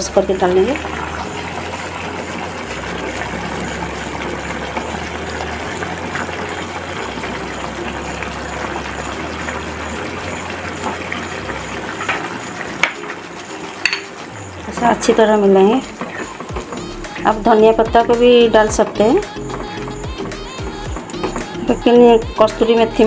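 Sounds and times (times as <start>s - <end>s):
curry bubbling in pan: 0.0s - 22.0s.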